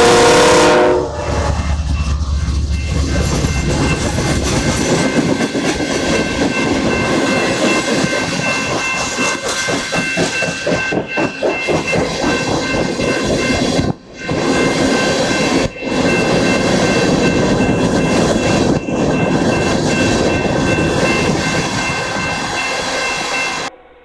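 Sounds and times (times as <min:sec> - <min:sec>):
train rumble and hiss: 0:00.0 - 0:23.7
train wheels clicking on rails: 0:00.0 - 0:23.7.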